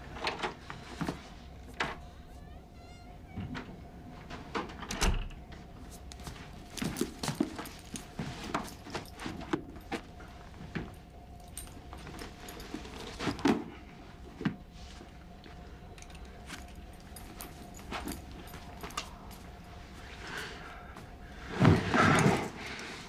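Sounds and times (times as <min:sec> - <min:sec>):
faint steady hum: 0:00.0 - 0:23.0
clinks and rustles of person moving: 0:04.2 - 0:23.0.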